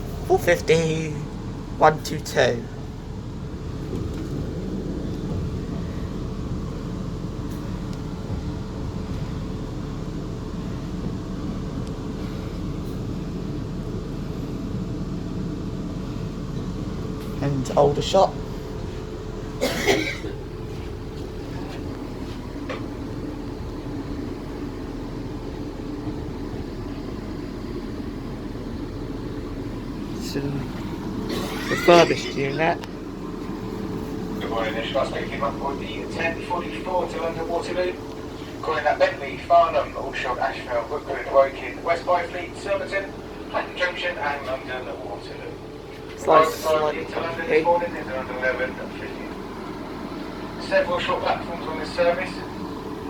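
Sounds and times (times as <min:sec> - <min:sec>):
steady hum: 0:00.0 - 0:53.0
train interior rumble: 0:00.0 - 0:53.0.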